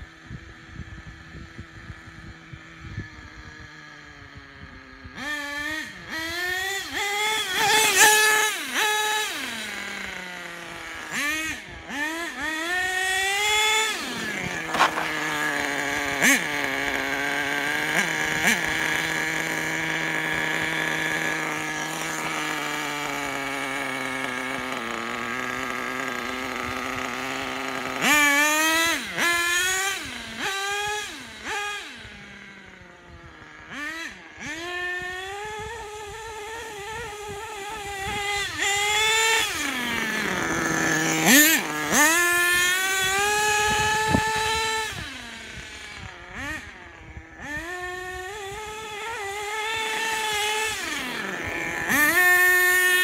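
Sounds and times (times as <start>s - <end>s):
small nitro engine idling and revving: 0.0s - 53.0s.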